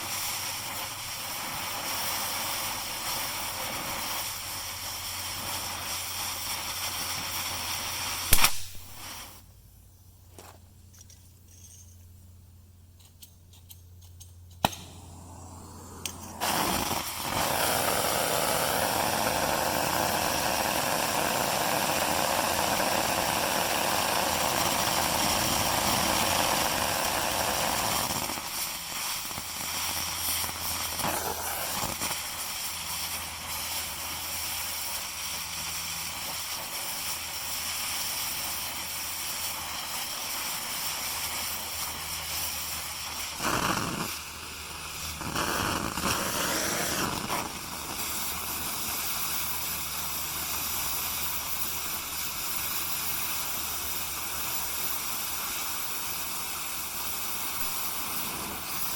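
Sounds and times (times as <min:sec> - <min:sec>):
gas cutting torch hissing: 0:00.0 - 0:09.4, 0:14.6 - 0:58.9.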